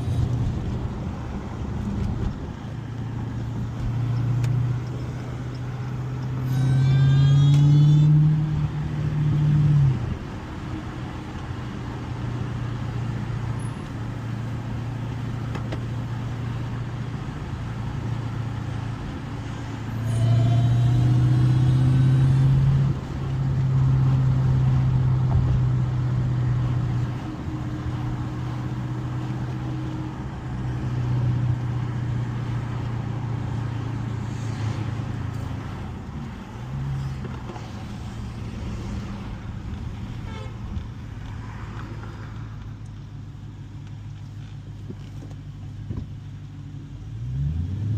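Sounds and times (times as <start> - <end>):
car engine revving while driving: 0.0 - 42.9, 46.8 - 47.9.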